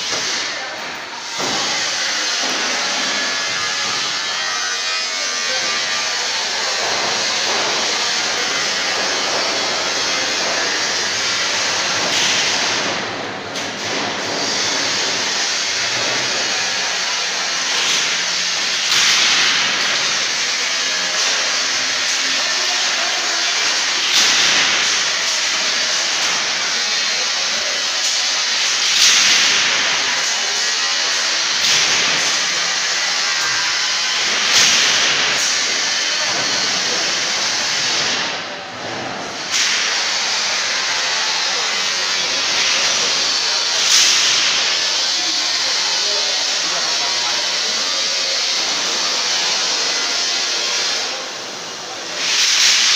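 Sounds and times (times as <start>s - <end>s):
loud steady hiss: 0.0s - 52.9s.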